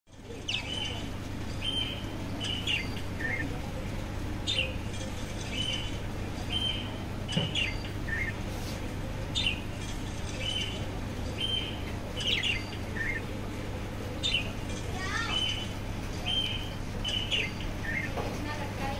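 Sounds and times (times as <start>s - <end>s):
steady low hum: 0.1s - 18.9s
budgerigars chirping: 0.3s - 3.6s, 4.4s - 8.4s, 9.2s - 13.4s, 14.1s - 18.2s.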